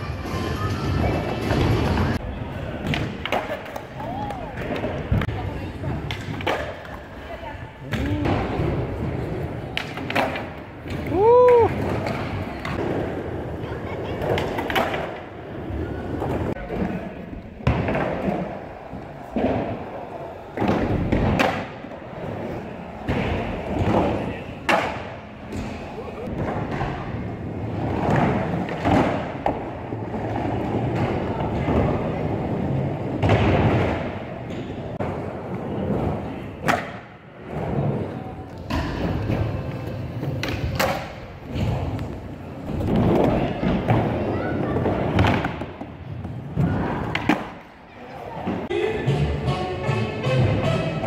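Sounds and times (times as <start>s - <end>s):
skateboard wheels rolling on concrete: 0.0s - 48.7s.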